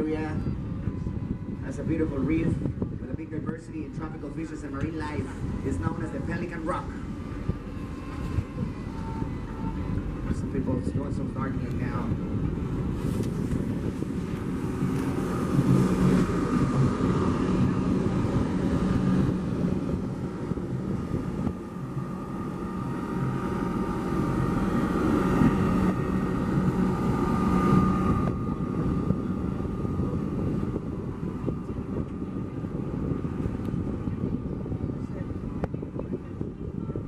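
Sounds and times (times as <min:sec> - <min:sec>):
boat engine droning: 0:00.0 - 0:37.0
faint high whine: 0:00.0 - 0:37.0.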